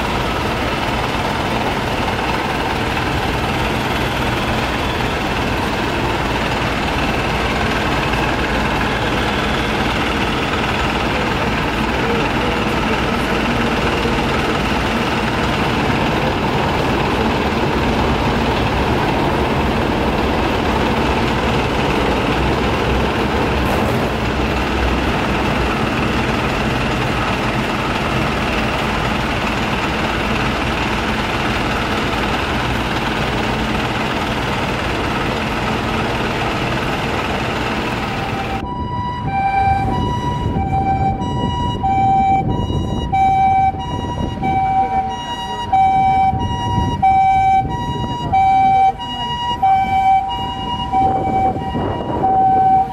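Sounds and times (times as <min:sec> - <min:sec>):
two-tone ambulance siren: 0:00.0 - 0:23.6, 0:24.2 - 0:52.9
fire engine running: 0:00.0 - 0:52.9
street traffic: 0:00.0 - 0:52.9.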